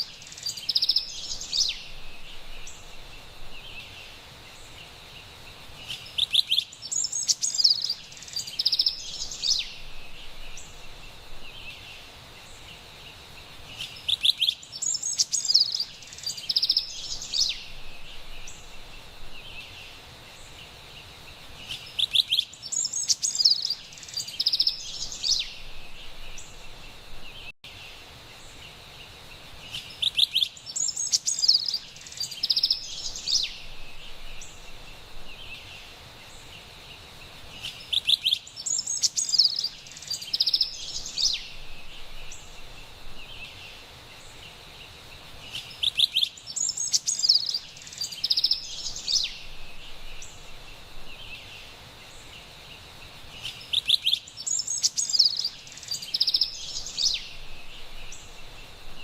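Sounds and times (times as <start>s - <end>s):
wren singing: 0.0s - 12.9s, 13.6s - 27.8s, 29.6s - 59.0s
forest ambience hiss: 0.0s - 59.0s.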